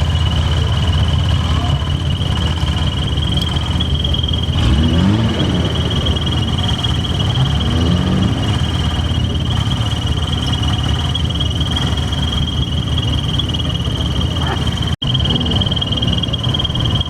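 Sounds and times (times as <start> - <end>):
high-pitched drone: 0.0 - 17.0
old car engines rumbling: 0.0 - 17.0.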